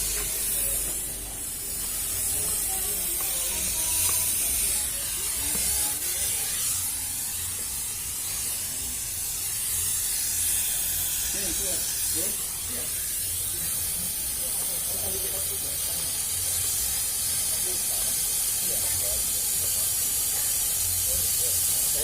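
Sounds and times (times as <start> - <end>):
fogging machine hissing: 0.0 - 22.0.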